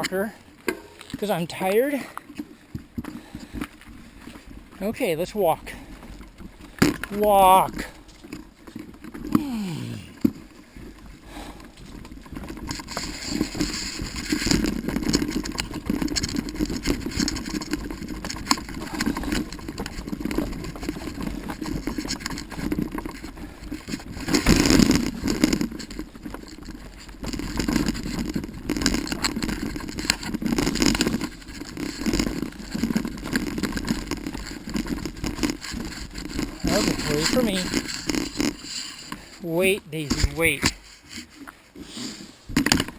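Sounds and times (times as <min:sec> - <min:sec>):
footsteps on dirt trail: 0:00.0 - 0:41.9
bicycle rattling on trail: 0:00.0 - 0:42.9.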